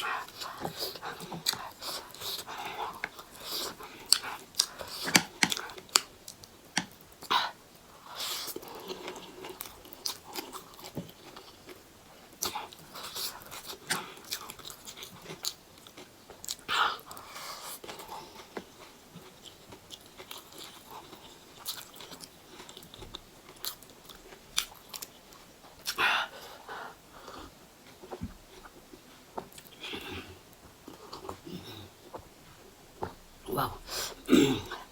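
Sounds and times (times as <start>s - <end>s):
chewing and crunching food: 0.0s - 34.9s.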